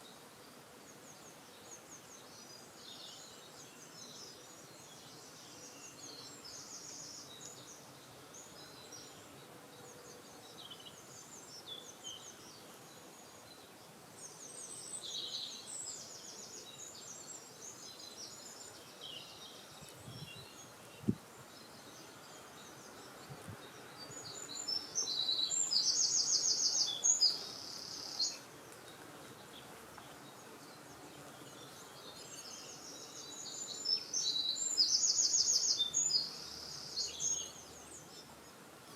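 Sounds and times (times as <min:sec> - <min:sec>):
faint background hiss: 0:00.0 - 0:38.9
songbirds trilling and chirping: 0:00.0 - 0:38.9.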